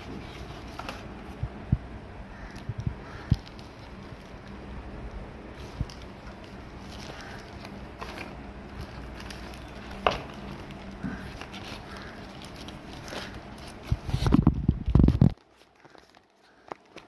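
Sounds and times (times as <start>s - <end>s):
paper and cardboard rustling: 0.0s - 1.4s, 3.1s - 4.6s, 5.5s - 17.0s
steady low hum: 0.0s - 17.0s.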